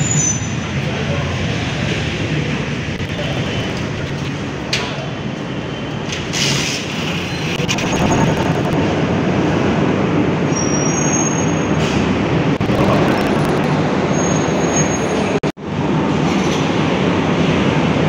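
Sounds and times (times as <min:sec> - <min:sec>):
parking garage background din: 0:00.0 - 0:18.0.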